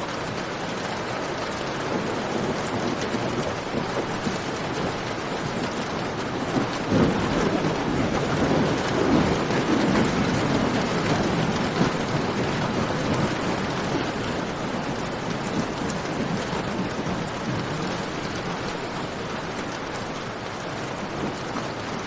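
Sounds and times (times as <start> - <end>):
heavy rain falling: 0.0 - 22.0
low rolling rumble: 0.0 - 22.0.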